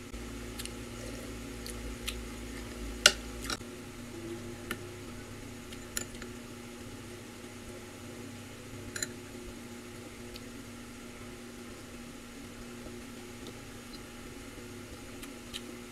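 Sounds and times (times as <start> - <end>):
electric fan hum: 0.0 - 15.9.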